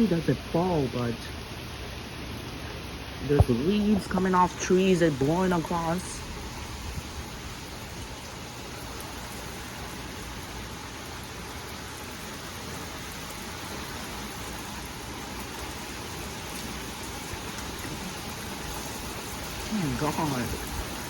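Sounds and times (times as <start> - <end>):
rain falling: 0.0 - 21.0
wind: 0.0 - 21.0.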